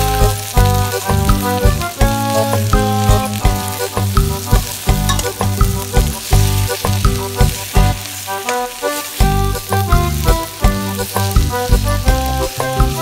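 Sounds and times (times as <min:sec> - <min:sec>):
background music with beat: 0:00.0 - 0:13.0
meat sizzling in a pot: 0:00.0 - 0:13.0.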